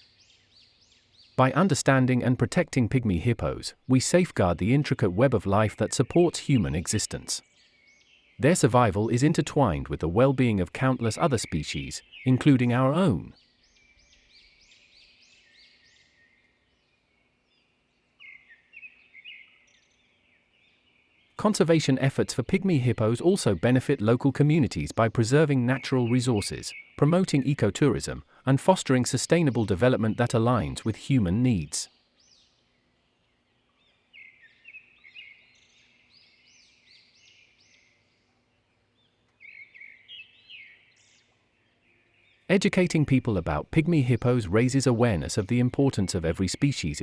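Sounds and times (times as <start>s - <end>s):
faint bird chirps: 0.0s - 47.0s.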